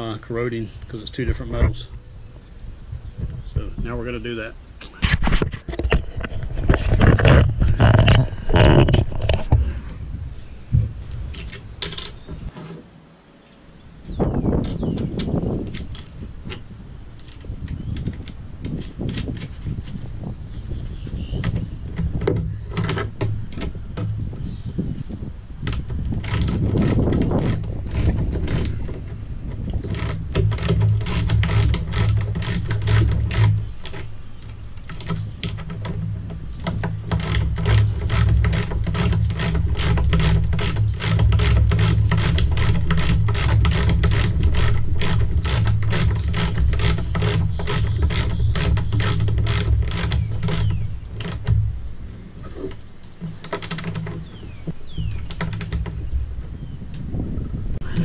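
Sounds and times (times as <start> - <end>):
low steady rumble: 0.0 - 5.0, 5.7 - 58.0.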